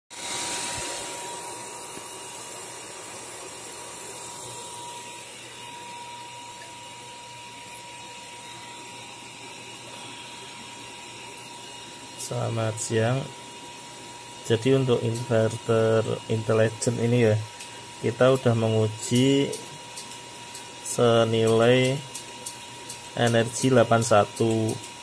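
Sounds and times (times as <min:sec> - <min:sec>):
inverter fan whir: 0:00.1 - 0:25.0
thin high whine: 0:00.1 - 0:25.0.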